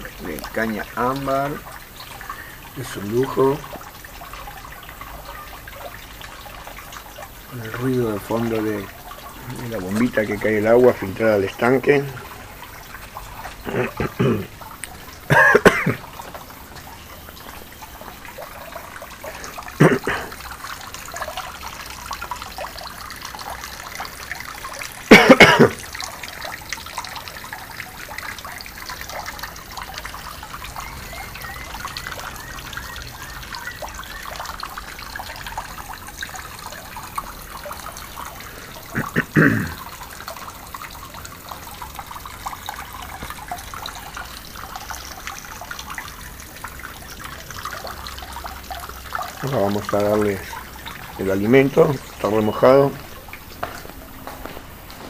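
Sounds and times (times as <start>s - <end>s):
water trickling into pond: 0.0s - 55.0s.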